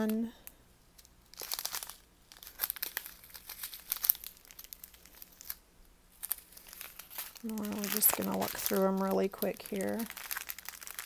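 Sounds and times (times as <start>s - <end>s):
plastic bags crinkling: 1.0s - 11.0s.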